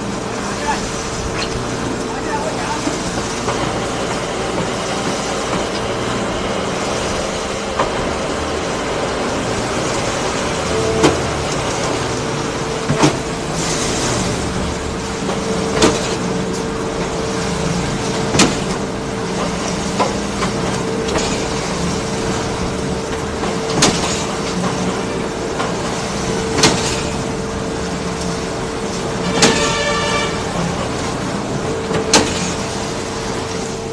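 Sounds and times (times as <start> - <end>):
concrete mixer pump humming: 0.0 - 33.9.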